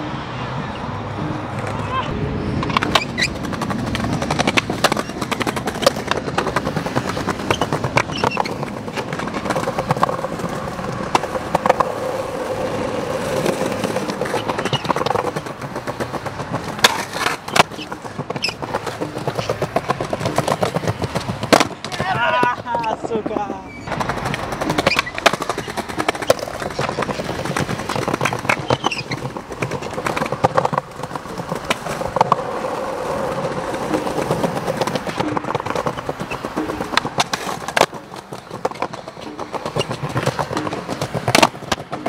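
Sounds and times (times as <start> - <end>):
skateboard wheels rolling on pavement: 0.0 - 42.0
skateboard clacking on ground: 1.2 - 42.0.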